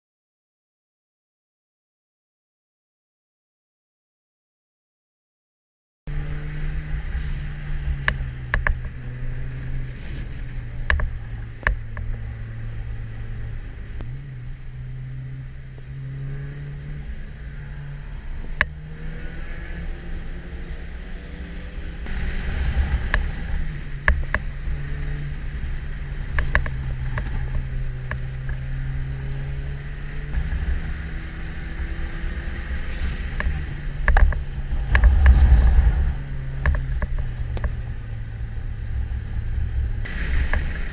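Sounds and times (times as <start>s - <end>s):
car engine droning inside cabin: 6.1s - 40.9s
road and tyre rumble: 6.1s - 40.9s.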